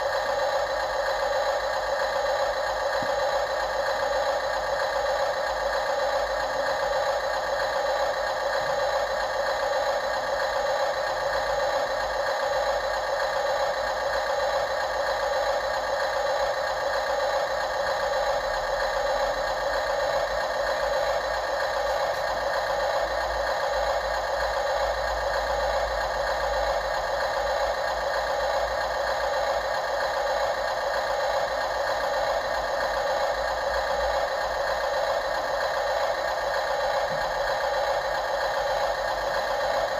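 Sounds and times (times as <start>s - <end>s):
model machinery mechanical whine: 0.0s - 39.9s.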